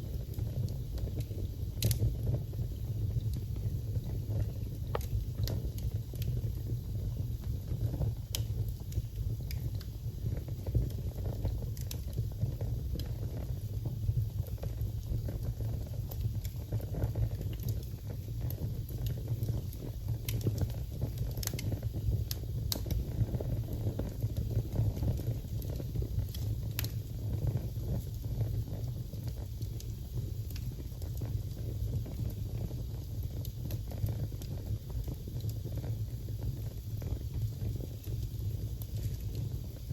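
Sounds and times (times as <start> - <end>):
burning logs crackling and popping: 0.0 - 39.9
low rumble of flames: 0.0 - 39.9.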